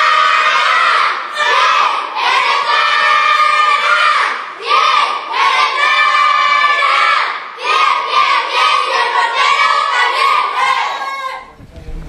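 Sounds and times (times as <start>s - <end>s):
young voices chanting in unison: 0.0s - 11.6s.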